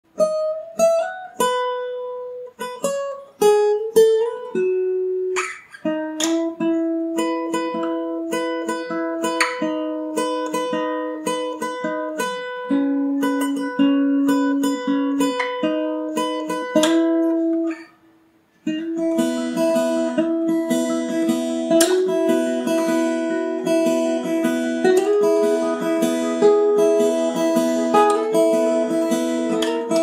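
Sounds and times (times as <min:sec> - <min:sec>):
acoustic guitar picking melody: 0:00.1 - 0:30.0.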